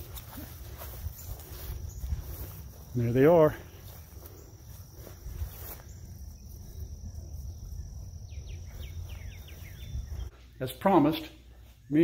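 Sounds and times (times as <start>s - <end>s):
insect drone: 0.0s - 10.3s
bird chirps: 0.4s - 3.0s, 3.8s - 12.0s.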